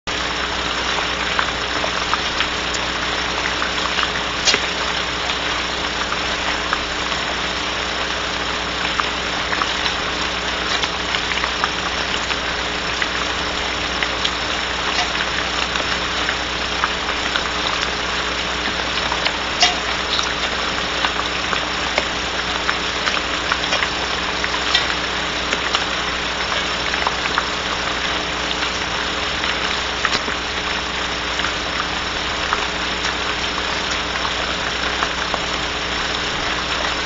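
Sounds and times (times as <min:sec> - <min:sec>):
low electrical hum: 0:00.1 - 0:37.0
steady rain: 0:00.1 - 0:37.0
sharp drip ticks: 0:00.6 - 0:37.0.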